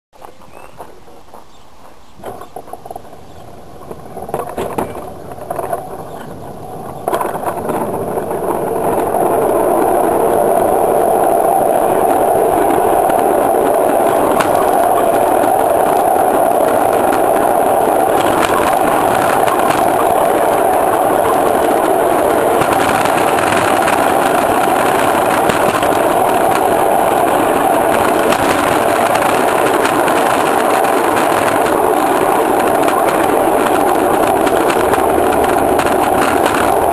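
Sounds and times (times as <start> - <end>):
train wheels rumbling on track: 0.2 - 36.9.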